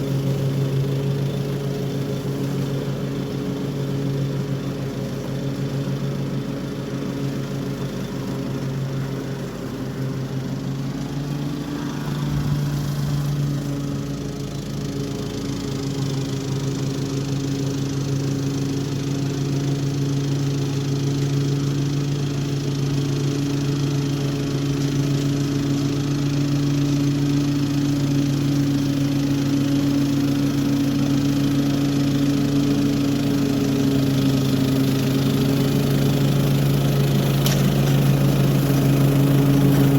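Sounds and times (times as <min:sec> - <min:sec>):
lawn mower cutting grass: 0:00.0 - 0:39.9.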